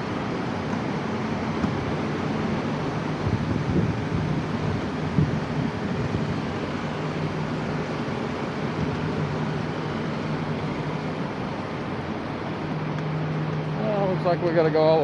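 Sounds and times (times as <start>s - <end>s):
train humming and rushing: 0.0s - 15.0s.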